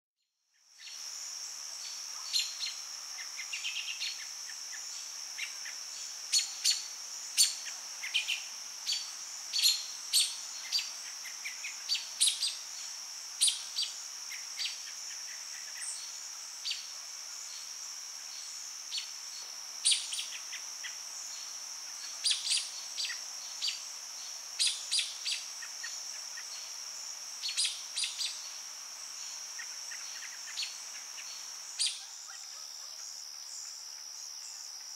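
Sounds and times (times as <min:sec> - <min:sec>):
insect chirps: 0:00.4 - 0:34.9
insect high-pitched drone: 0:00.4 - 0:34.9.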